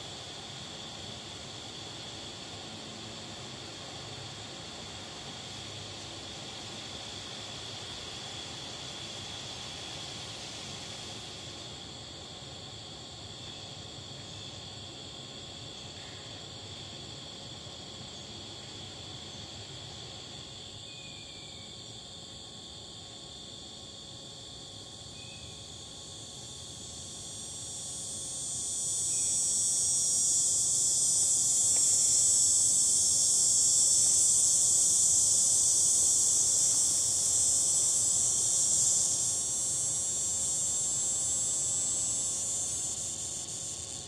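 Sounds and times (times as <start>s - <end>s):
high insect trill: 0.0s - 44.0s
loud high insect buzz: 0.0s - 44.0s.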